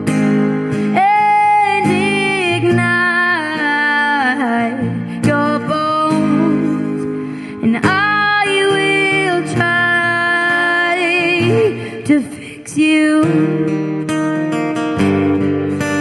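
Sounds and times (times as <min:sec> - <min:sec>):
person singing with vibrato: 0:00.7 - 0:14.0.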